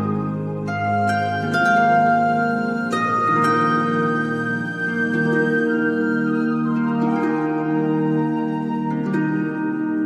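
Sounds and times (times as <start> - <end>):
slow new-age keyboard music: 0.0 - 10.0.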